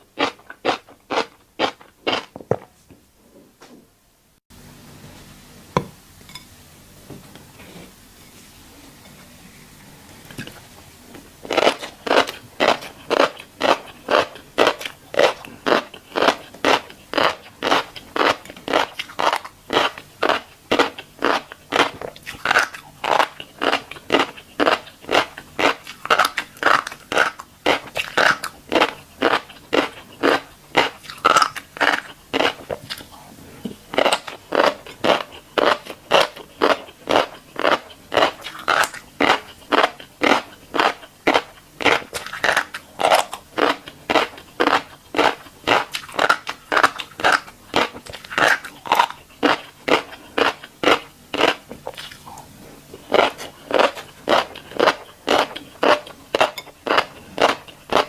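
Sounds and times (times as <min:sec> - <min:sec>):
chewing crunchy seeds: 0:00.1 - 0:02.4, 0:10.3 - 0:58.0.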